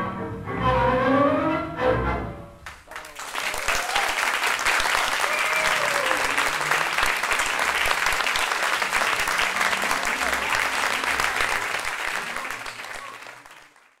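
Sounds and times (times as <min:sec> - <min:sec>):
audience applauding: 0:02.6 - 0:14.0.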